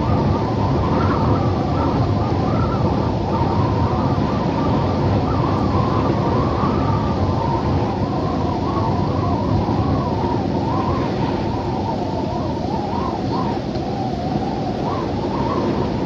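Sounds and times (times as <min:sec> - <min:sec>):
wind rushing with whistle: 0:00.0 - 0:16.0.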